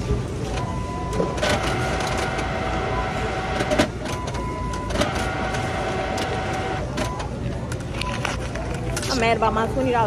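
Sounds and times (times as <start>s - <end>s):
low store hum: 0.0s - 10.0s.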